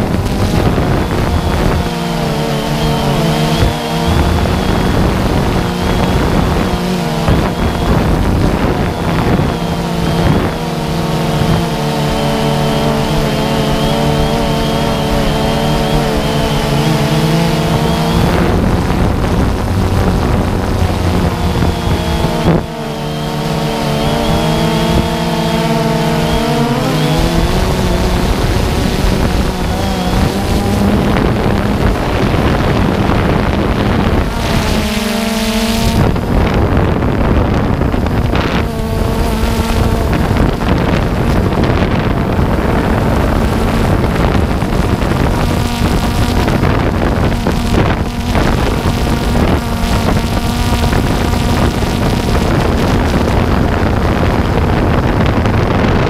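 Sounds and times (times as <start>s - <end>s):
drone motors humming: 0.0s - 56.0s
wind on microphone: 0.0s - 56.0s.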